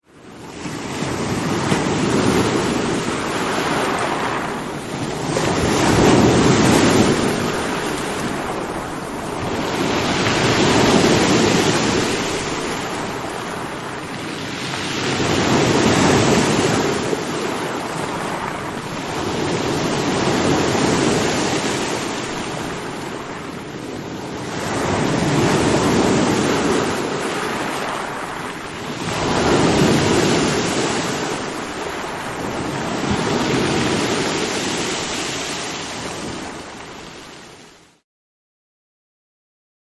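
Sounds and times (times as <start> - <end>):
ocean waves crashing on shore: 0.1 - 38.0.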